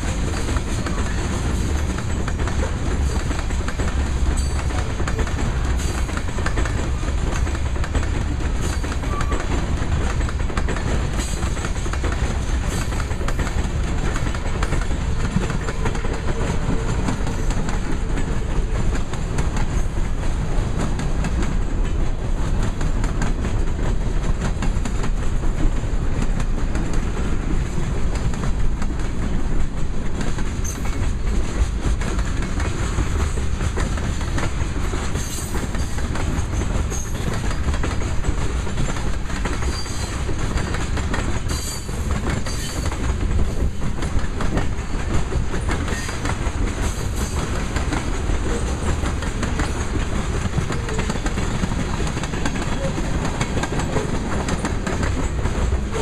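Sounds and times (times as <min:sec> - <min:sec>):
freight train rumbling past: 0:00.0 - 0:56.0
wheels clicking over rail joints: 0:00.0 - 0:56.0.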